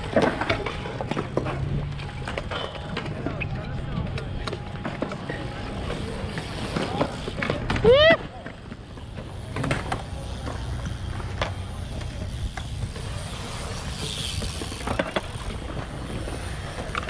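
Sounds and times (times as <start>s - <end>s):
bikes knocking on concrete: 0.0s - 17.0s.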